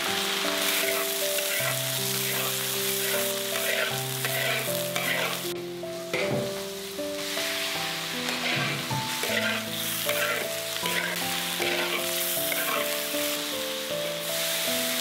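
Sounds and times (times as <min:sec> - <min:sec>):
food sizzling in a wok: 0:00.0 - 0:15.0
soft background music: 0:00.0 - 0:15.0
metal spatula scraping wok: 0:00.6 - 0:05.5, 0:06.1 - 0:13.4.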